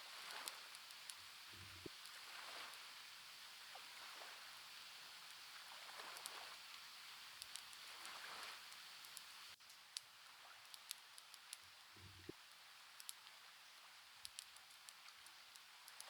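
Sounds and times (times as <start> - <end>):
fireplace crackling: 0.0 - 16.0.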